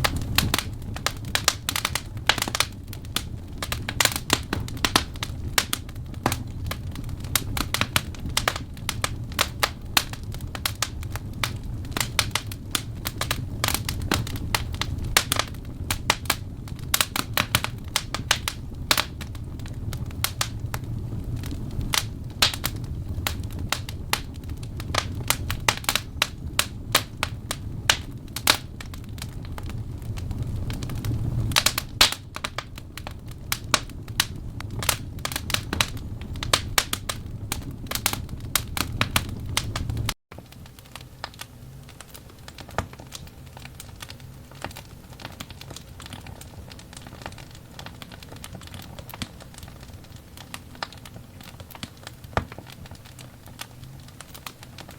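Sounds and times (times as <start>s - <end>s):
logs crackling and popping: 0.0s - 54.9s
low rumble of flames: 0.0s - 54.9s.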